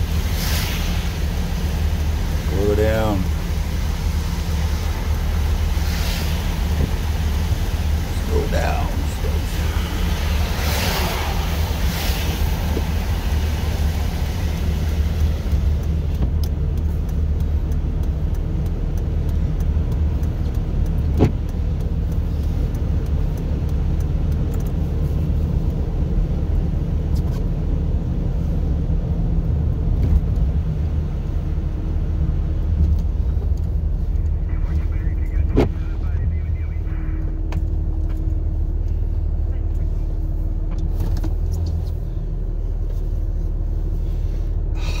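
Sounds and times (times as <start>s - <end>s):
tyre noise on slushy road: 0.0s - 45.0s
vehicle engine drone: 0.0s - 45.0s.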